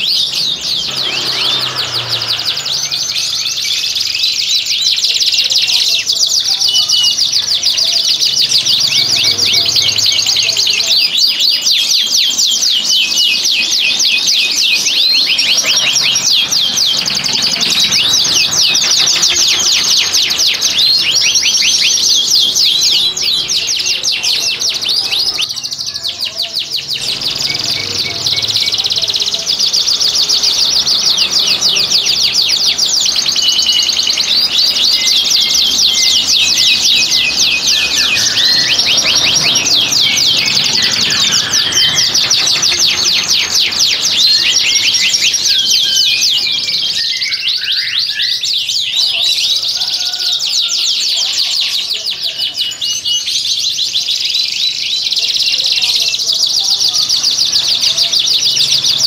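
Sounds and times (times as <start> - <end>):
canaries singing trills: 0.0 - 59.0.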